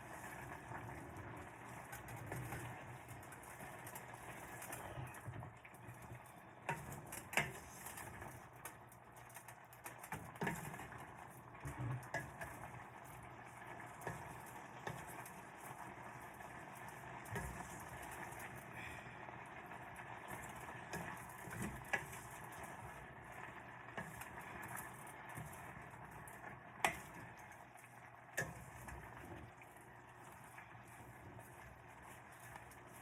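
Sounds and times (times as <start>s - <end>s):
food sizzling in a pan: 0.0s - 33.0s.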